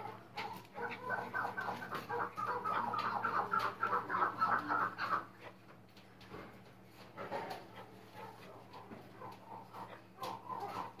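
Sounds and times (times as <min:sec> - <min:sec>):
partridge clucking calls: 0:00.0 - 0:05.6, 0:07.3 - 0:11.0.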